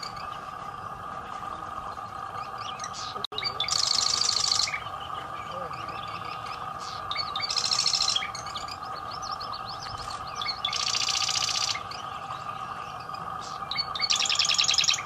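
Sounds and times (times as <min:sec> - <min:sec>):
steady background hum: 0:00.0 - 0:15.0
wren chipping notes: 0:00.0 - 0:15.0
wren rattling song: 0:00.0 - 0:15.0.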